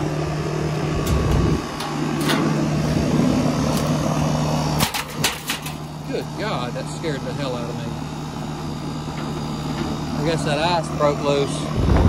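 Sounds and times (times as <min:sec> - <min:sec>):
heat pump fan humming: 0:00.0 - 0:12.0.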